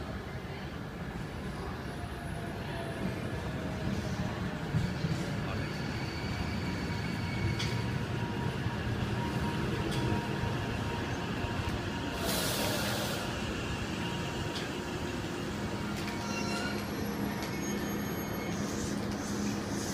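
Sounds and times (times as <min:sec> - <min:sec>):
train wheels rumbling on rail: 0:00.1 - 0:19.9.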